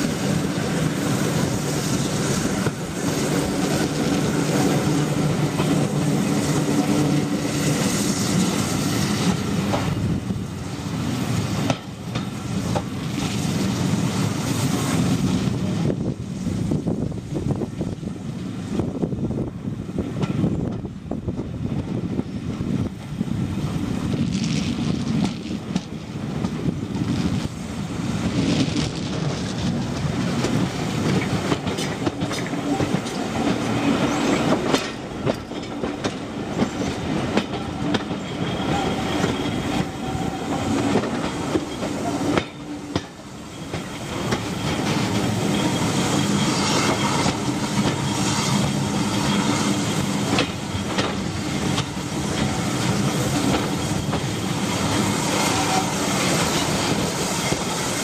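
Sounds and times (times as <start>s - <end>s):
train wheels clattering over rail joints: 0.0s - 10.3s, 11.1s - 15.4s, 20.0s - 21.0s, 24.2s - 58.0s.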